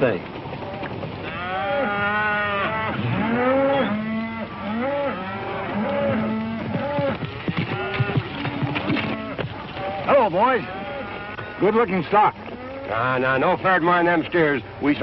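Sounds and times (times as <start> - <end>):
cows mooing: 0.5 - 14.4.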